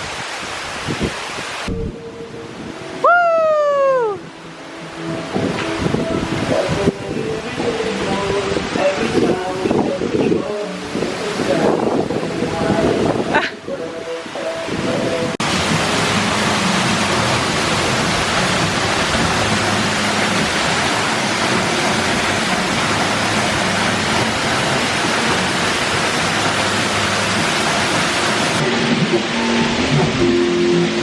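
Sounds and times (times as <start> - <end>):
waterfall pouring into pool: 0.0 - 1.8, 3.0 - 13.5, 14.4 - 31.0.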